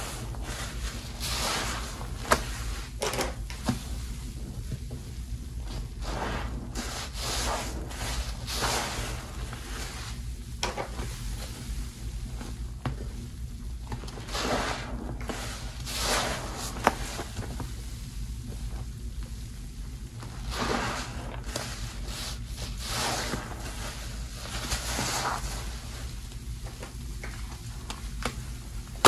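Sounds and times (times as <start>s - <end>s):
squelching soap suds: 0.0s - 29.0s.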